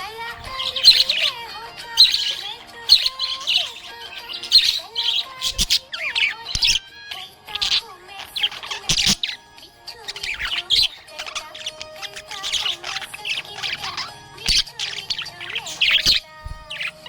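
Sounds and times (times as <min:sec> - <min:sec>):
budgerigar chirping and squawking: 0:00.0 - 0:17.0.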